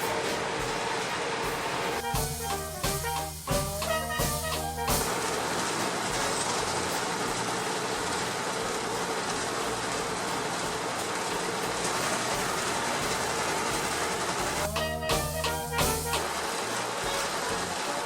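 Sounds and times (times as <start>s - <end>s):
machinery clattering: 0.0s - 18.0s.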